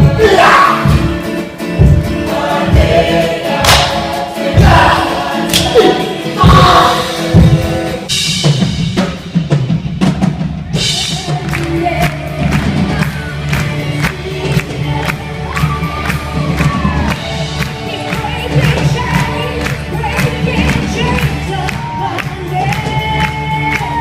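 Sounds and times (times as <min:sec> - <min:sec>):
music with steady drum beat: 0:00.0 - 0:24.0.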